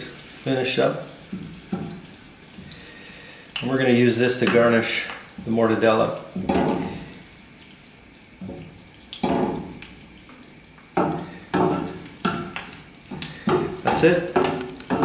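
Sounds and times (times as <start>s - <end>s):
faint oil sizzle: 0.0s - 15.0s.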